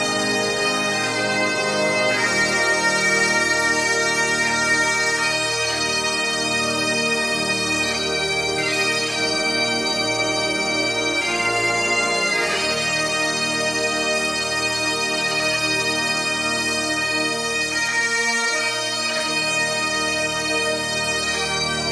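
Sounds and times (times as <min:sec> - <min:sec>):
bagpipe music: 0:00.0 - 0:21.9.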